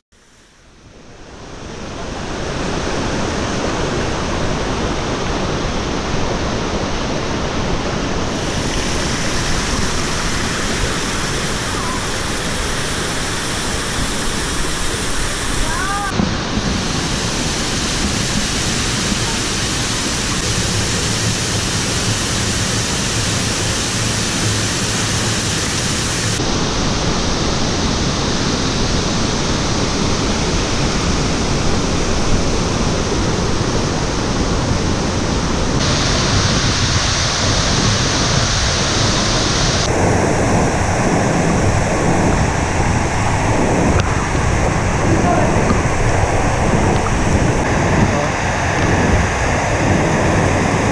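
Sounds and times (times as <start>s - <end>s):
waterfall roaring: 0.2s - 50.9s.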